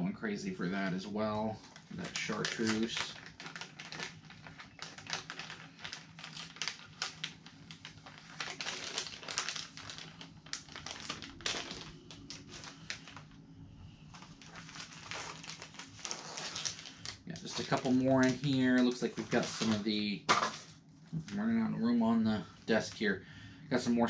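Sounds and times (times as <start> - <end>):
plastic packages crinkling: 1.5 - 13.4, 14.0 - 21.5, 22.4 - 23.1.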